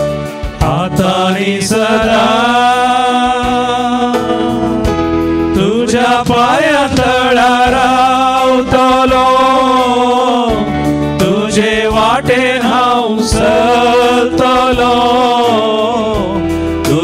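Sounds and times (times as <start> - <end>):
held instrumental notes: 0.0 - 17.0
person singing a hymn: 0.4 - 17.0.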